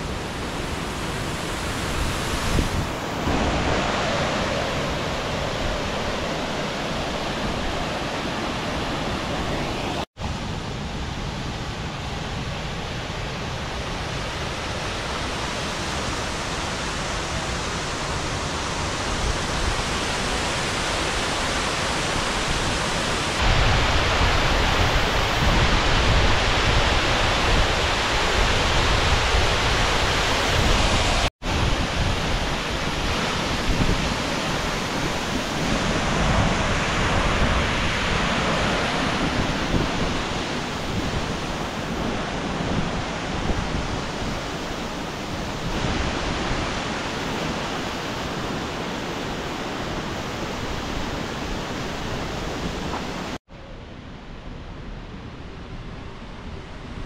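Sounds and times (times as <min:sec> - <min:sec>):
waterfall roaring over rocks: 0:00.0 - 0:53.4.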